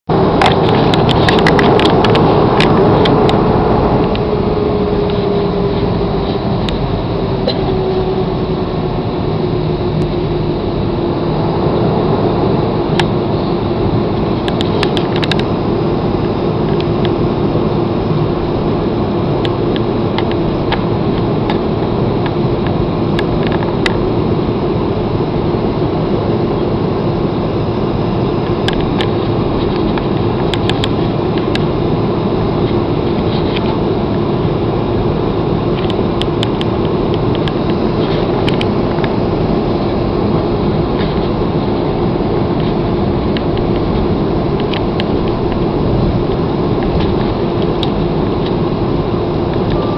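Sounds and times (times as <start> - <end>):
constant hum: 0.0 - 49.9
jet engine roar in cabin: 0.0 - 49.9.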